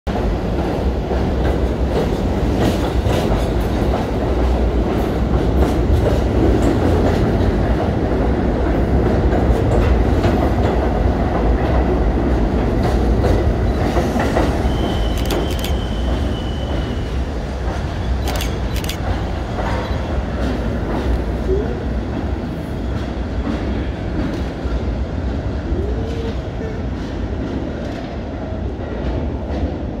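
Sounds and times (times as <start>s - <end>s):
train wheels rumbling on rails: 0.1s - 30.0s.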